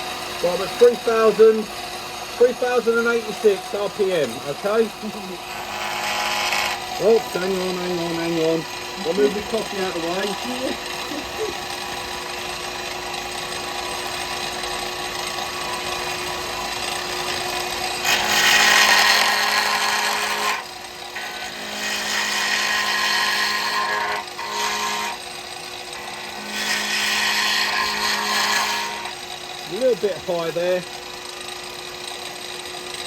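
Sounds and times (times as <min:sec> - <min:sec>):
cutter scraping spinning wood: 0:00.0 - 0:33.0
wood lathe motor humming: 0:00.0 - 0:33.0.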